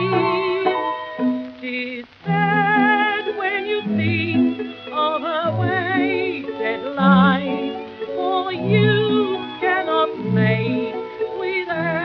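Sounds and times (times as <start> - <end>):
old music-hall record melody: 0.0 - 12.0.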